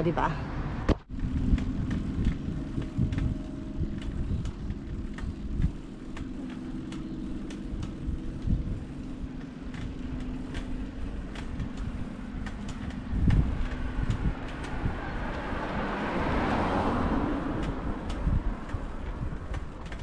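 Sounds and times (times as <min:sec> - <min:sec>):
vehicle passing: 0:00.0 - 0:20.0
wind buffeting microphone: 0:00.8 - 0:20.0.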